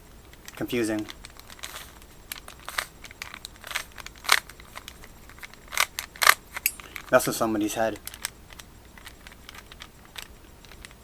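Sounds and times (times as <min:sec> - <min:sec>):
rustling: 0:00.0 - 0:11.0
plastic puzzle cubes clicking: 0:00.4 - 0:11.0.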